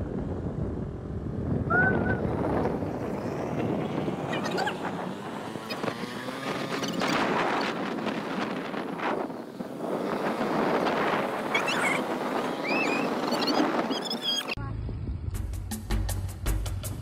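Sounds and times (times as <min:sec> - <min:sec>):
wind buffeting microphone: 0:00.0 - 0:15.6
moving vehicle noise: 0:00.0 - 0:17.0.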